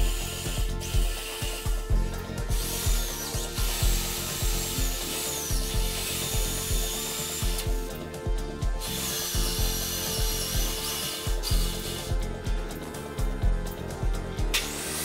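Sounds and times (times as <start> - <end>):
electric drill whining: 0.0 - 12.7, 14.5 - 15.0
background music with a beat: 0.0 - 15.0.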